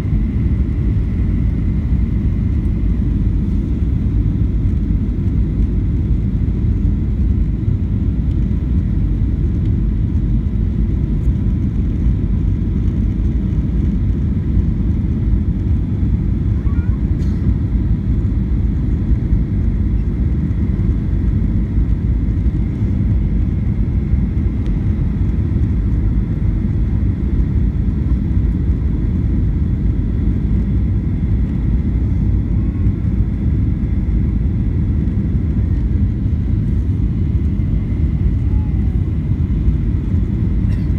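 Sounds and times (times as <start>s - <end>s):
rumble of engines and airflow: 0.0s - 40.9s.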